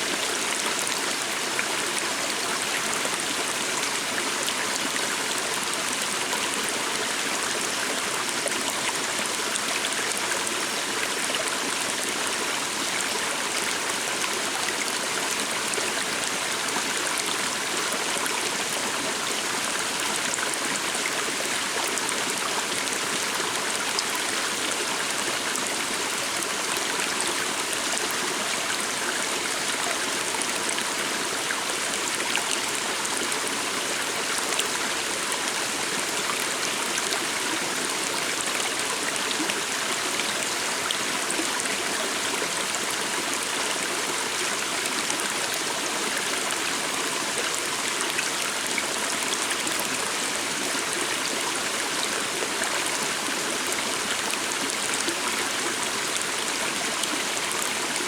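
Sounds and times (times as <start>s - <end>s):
small stream running: 0.0s - 58.0s.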